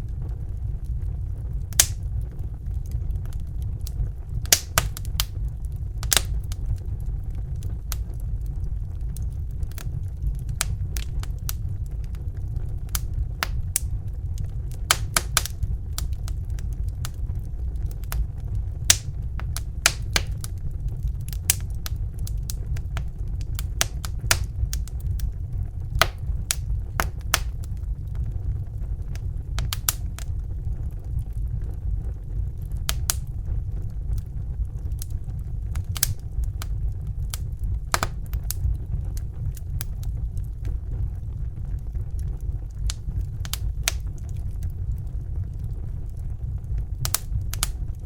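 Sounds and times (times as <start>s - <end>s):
fire crackling and popping: 0.0s - 48.0s
steady low rumble: 0.0s - 48.0s.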